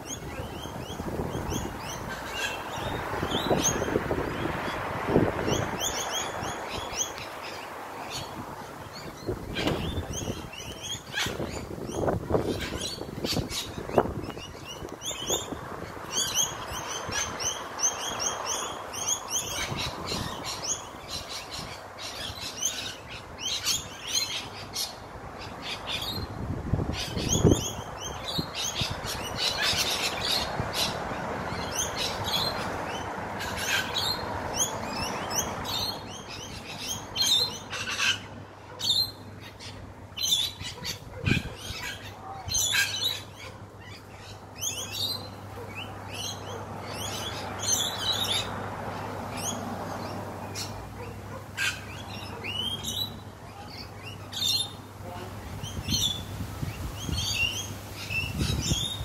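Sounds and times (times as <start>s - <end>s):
birds chirping and screeching: 0.0s - 59.0s.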